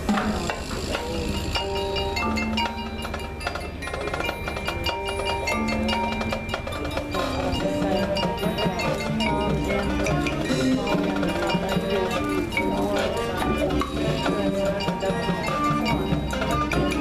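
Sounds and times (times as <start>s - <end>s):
mallet percussion: 0.0s - 17.0s
marching band playing: 0.0s - 17.0s
struck percussion: 0.0s - 17.0s.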